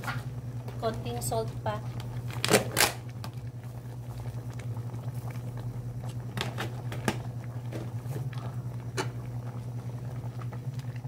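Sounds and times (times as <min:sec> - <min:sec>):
steady low hum: 0:00.0 - 0:11.0
soup bubbling and popping: 0:01.4 - 0:11.0.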